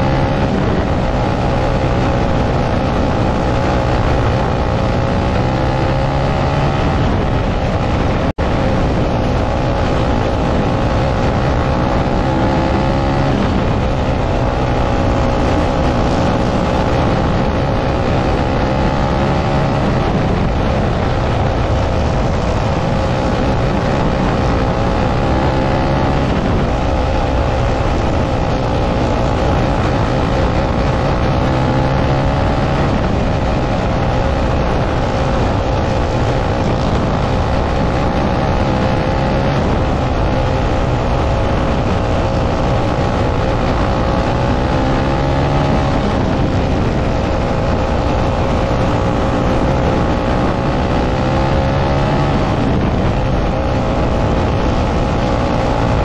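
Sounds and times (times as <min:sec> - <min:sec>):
kart engine droning: 0:00.0 - 0:56.0.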